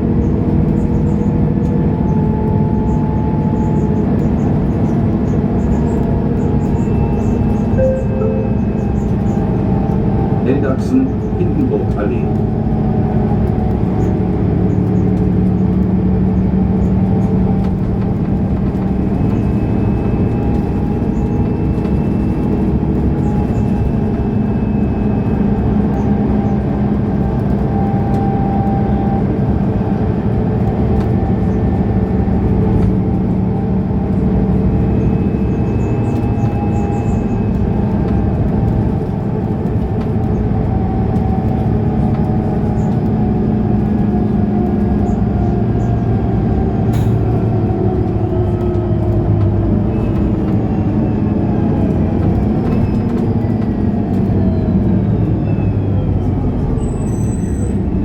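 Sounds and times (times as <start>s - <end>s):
bus engine running: 0.0s - 58.0s
road and cabin noise: 0.0s - 58.0s.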